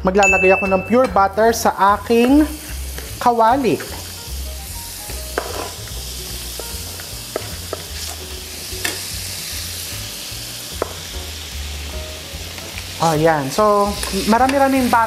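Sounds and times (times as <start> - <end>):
butter sizzling in a skillet: 1.3 - 15.0.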